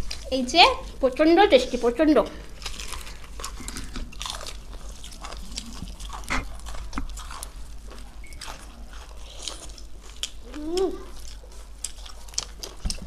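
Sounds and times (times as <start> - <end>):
chewing crispy fried chicken: 2.4 - 13.0.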